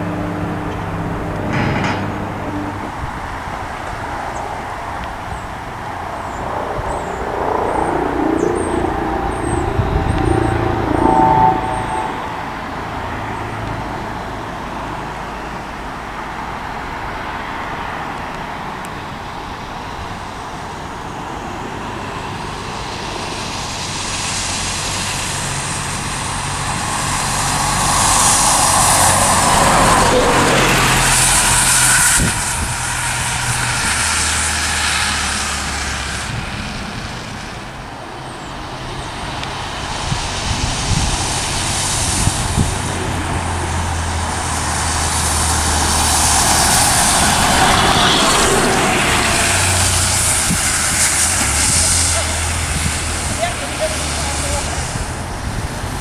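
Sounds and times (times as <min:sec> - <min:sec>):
bus engine and tyre noise: 0:00.0 - 0:56.0.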